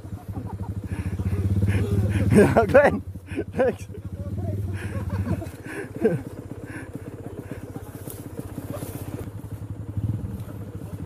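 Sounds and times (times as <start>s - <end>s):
motorcycle engine puttering: 0.0s - 11.0s.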